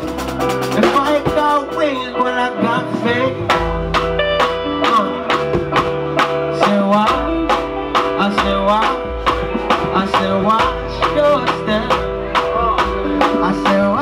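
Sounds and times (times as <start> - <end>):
hip-hop beat: 0.0 - 14.0.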